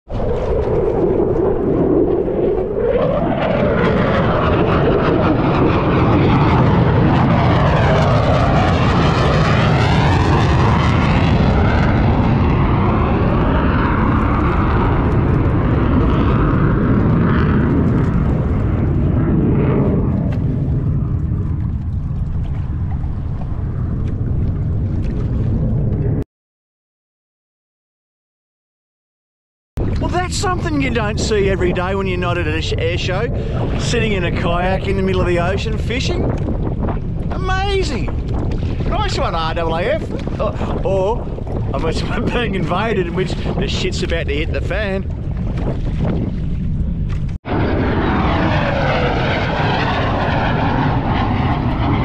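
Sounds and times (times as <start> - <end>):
fighter jets passing overhead: 0.1 - 26.2, 29.8 - 52.0.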